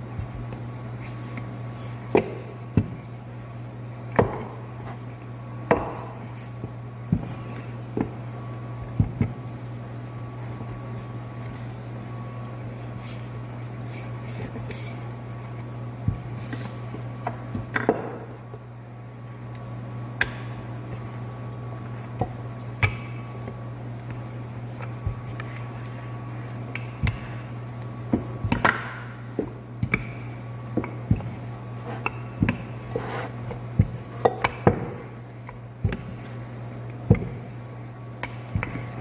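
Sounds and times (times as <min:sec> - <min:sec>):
rolling pin rolling dough: 0:00.0 - 0:19.0, 0:20.9 - 0:39.0.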